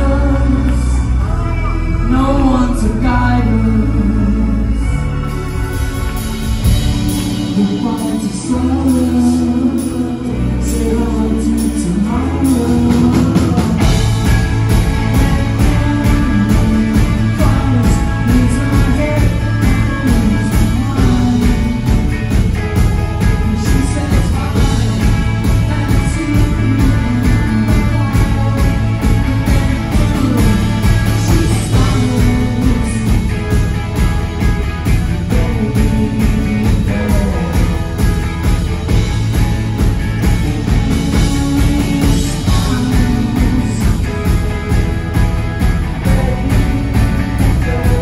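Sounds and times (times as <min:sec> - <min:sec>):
bass guitar: 0:00.0 - 0:48.0
drums: 0:00.0 - 0:48.0
electric guitar: 0:00.0 - 0:48.0
lead vocal singing: 0:00.0 - 0:48.0.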